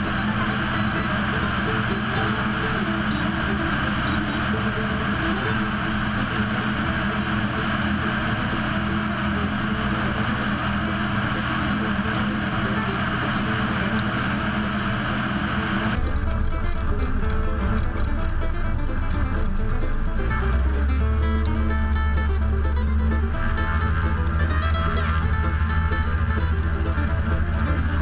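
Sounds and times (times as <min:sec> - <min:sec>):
propeller airplane engine drone: 0:00.0 - 0:28.0.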